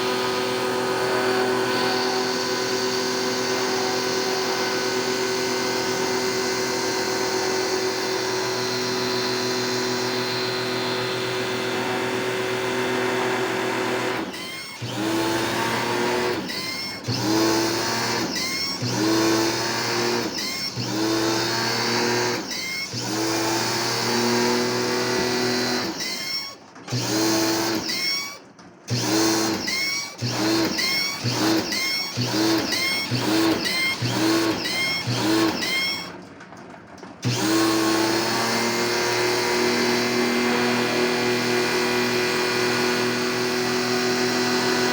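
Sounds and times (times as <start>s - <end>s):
small electric motor whining: 0.0s - 36.2s, 37.2s - 44.9s.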